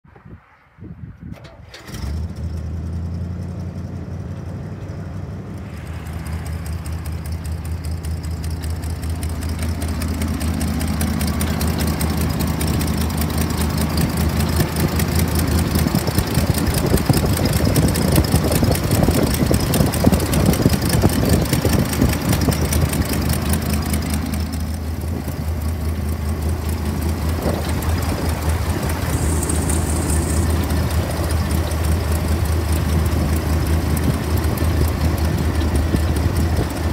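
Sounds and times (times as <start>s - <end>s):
truck engine idling: 2.6s - 36.9s.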